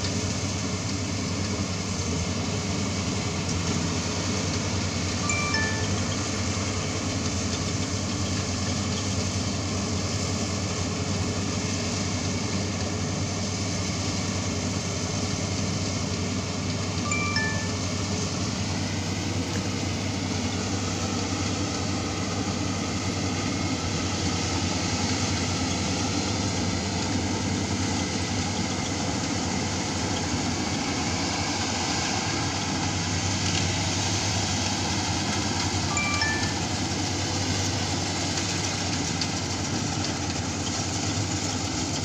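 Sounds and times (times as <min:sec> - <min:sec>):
combine harvester engine hum: 0:00.0 - 0:42.0.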